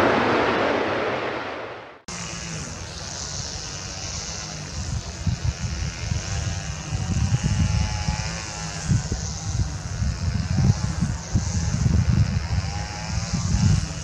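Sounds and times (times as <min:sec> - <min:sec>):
jet engines running: 0:00.0 - 0:11.4.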